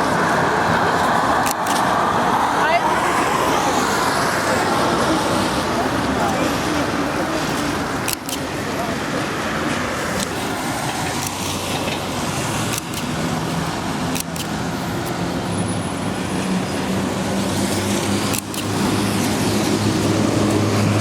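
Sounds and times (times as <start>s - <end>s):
road noise: 0.0s - 21.0s
vehicle motor hum: 0.0s - 21.0s.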